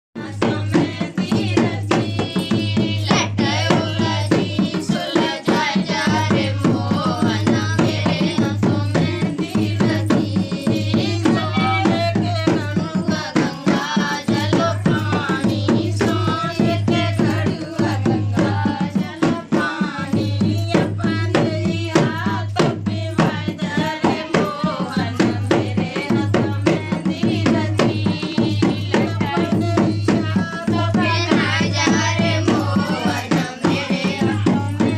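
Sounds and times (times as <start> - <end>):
fast dholak drumming: 0.2 - 34.9
folk singing: 0.2 - 34.9.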